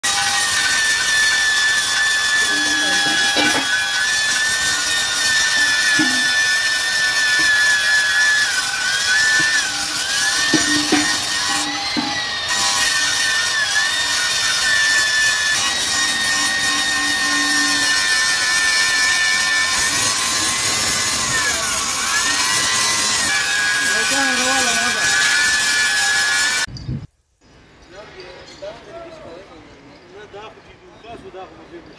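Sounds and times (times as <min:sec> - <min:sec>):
angle grinder grinding metal: 0:00.0 - 0:26.7.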